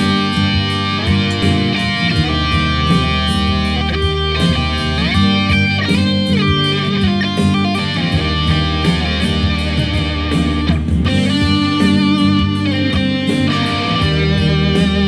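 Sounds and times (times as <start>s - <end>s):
electric guitar lead line: 0.0s - 15.0s.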